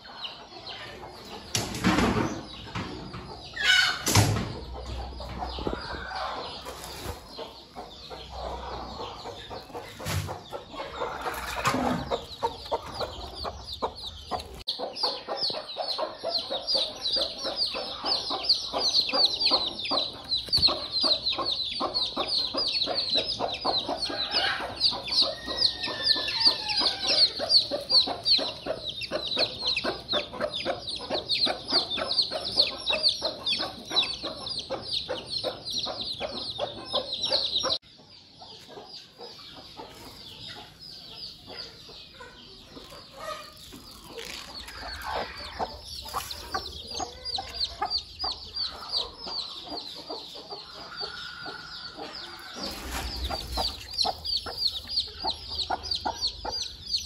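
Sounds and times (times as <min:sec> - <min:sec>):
chicks peeping: 0:00.0 - 0:57.0
hen clucking: 0:00.0 - 0:57.0.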